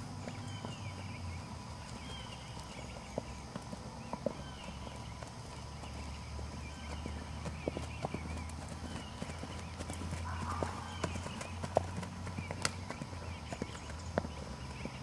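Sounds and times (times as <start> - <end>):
horse hooves thudding on grass: 0.0 - 15.0
steady low hum: 0.0 - 15.0.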